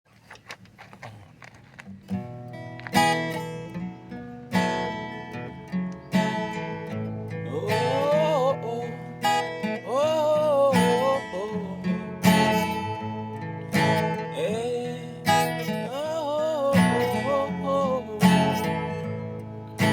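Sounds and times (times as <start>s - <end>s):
strummed acoustic guitar: 1.0s - 19.9s.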